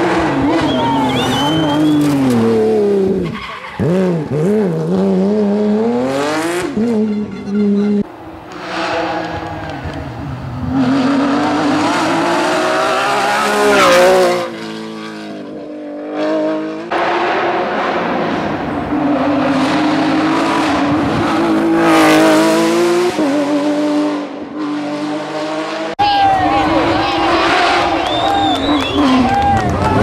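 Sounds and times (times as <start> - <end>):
rally car engine at high revs: 0.0 - 26.0.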